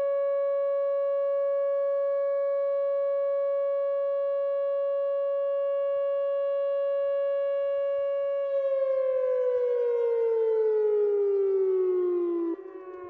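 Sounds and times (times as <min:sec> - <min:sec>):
warning siren falling in pitch: 0:00.0 - 0:13.0.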